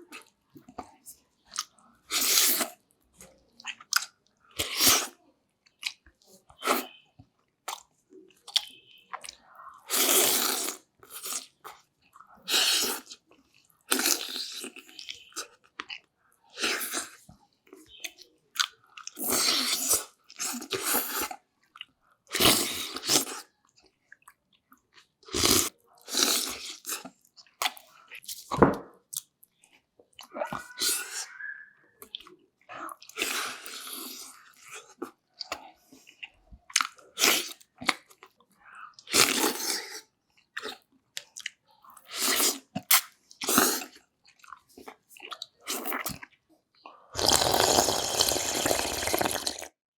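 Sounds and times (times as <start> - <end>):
person chewing and crunching: 0.0 - 7.0, 7.7 - 31.4, 32.0 - 49.7.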